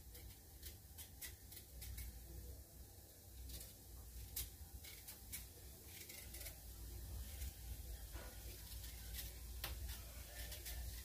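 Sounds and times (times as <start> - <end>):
knife scraping vegetable skin: 0.1 - 2.3, 3.4 - 7.7, 8.5 - 11.0.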